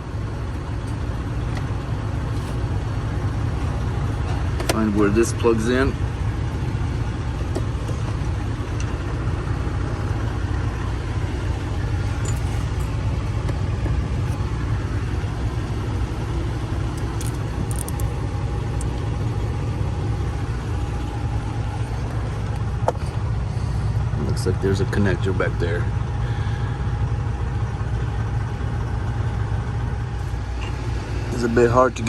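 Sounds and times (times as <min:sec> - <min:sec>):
diesel truck engine idling: 0:00.0 - 0:32.0.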